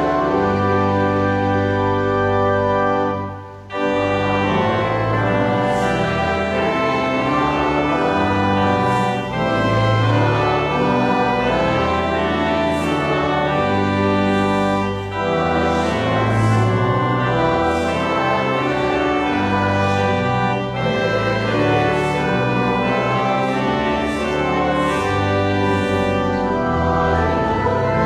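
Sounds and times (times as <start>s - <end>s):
church organ chords: 0.0s - 28.0s.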